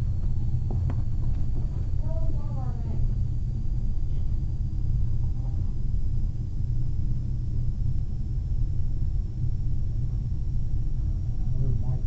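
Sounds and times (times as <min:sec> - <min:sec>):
faint high whine: 0:00.0 - 0:12.0
low background rumble: 0:00.0 - 0:12.0.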